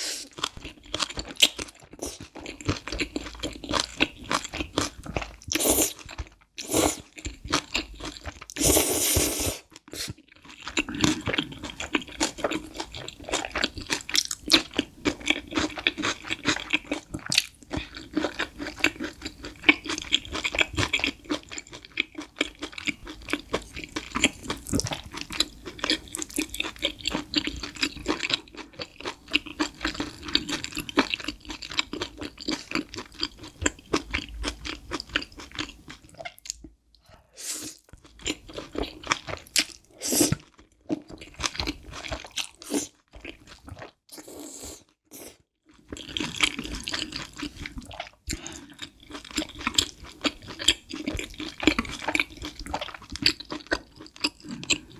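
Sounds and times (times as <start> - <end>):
crisp wet chewing of noodles: 0.0 - 54.9.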